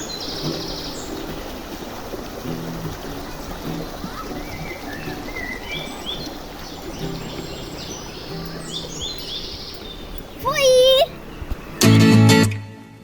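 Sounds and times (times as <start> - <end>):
birds chirping: 0.0 - 12.1
outdoor background noise: 0.0 - 13.0.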